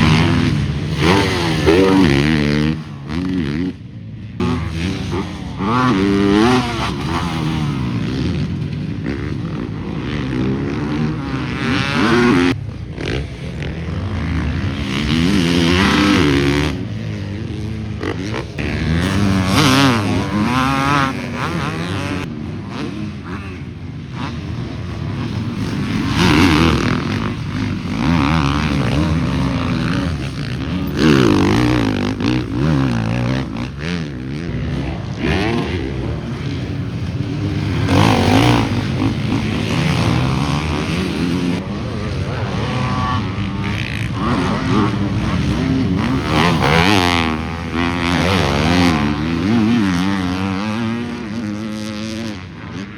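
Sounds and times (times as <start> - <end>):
motocross engines revving: 0.0 - 52.9
motorbikes passing close: 0.0 - 52.9.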